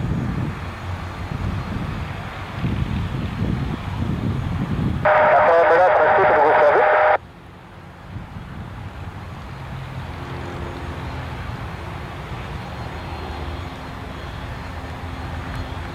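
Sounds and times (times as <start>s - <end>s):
propeller aircraft engine drone: 0.0s - 15.9s.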